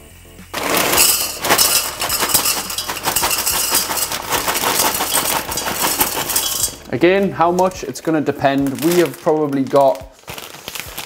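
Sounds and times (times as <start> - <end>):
dry pasta rattling into metal pot: 0.6 - 11.0.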